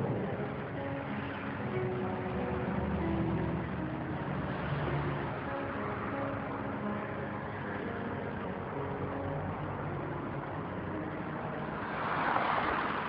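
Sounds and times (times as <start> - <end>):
street traffic with engines running: 0.0 - 13.0.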